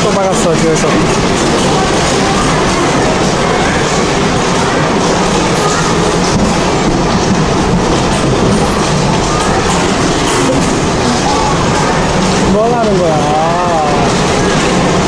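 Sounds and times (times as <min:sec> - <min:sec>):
bumper car ride din: 0:00.0 - 0:15.0.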